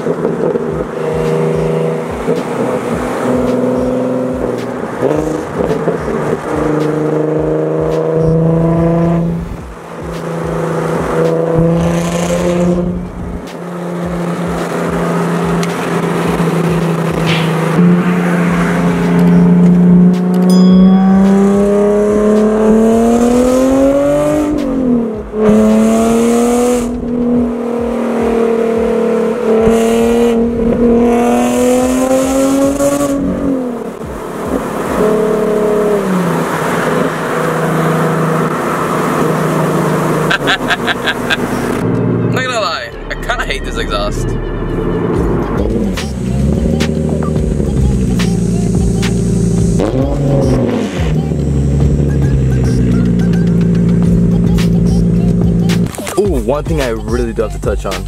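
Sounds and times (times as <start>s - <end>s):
sports car engine running: 0.0s - 58.0s.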